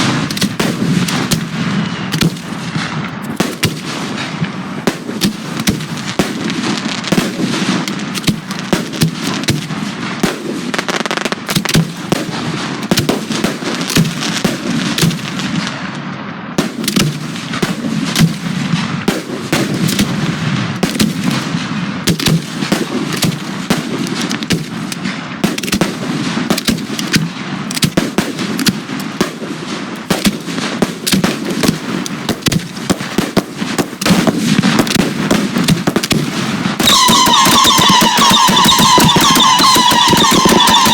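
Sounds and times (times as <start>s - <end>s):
fireworks launching and bursting: 0.0s - 40.9s.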